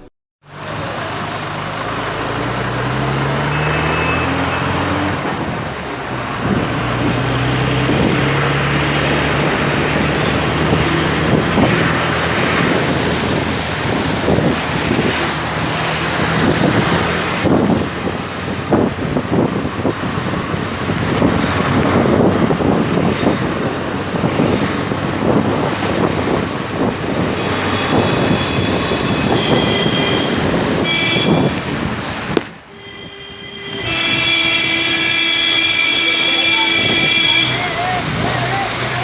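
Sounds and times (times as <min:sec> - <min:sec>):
engine hum: 0:00.0 - 0:39.0
road and wind noise: 0:00.0 - 0:39.0.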